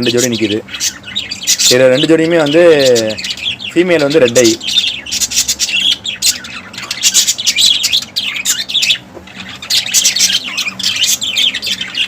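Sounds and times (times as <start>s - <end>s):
lovebirds chirping and squawking: 0.0s - 12.0s.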